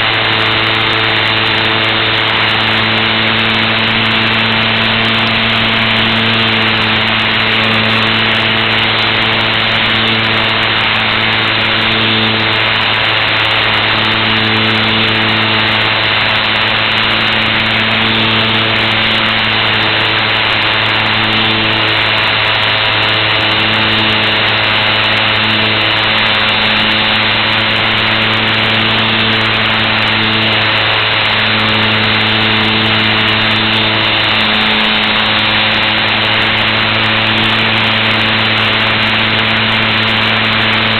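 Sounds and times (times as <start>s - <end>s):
airflow noise: 0.0s - 40.9s
model plane motor humming: 0.0s - 40.9s.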